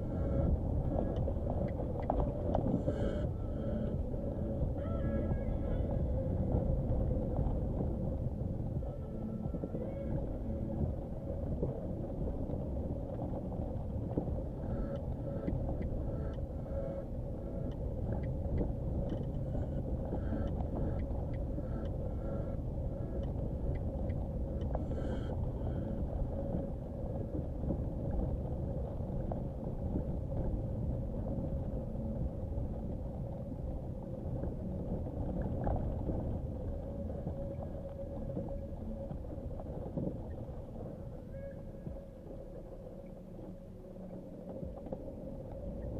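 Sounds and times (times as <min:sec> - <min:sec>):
car engine and tyre rumble: 0:05.9 - 0:45.9.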